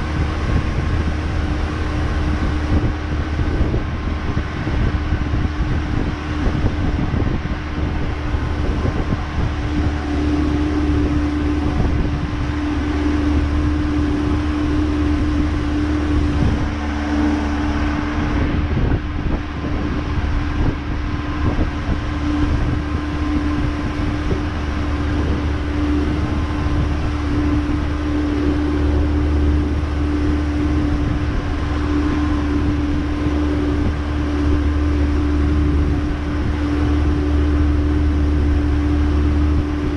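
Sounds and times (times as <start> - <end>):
boat engine running at low revs: 0.0 - 39.9.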